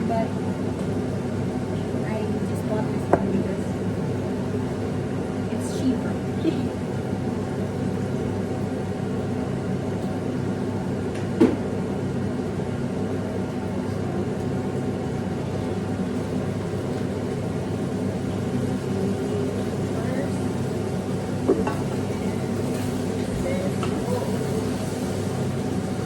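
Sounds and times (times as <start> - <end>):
exhaust fan humming: 0.0 - 26.0.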